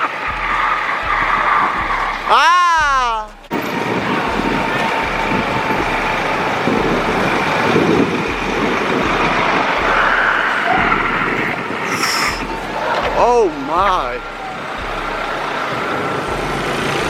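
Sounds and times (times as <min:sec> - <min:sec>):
city road traffic: 0:00.0 - 0:17.0.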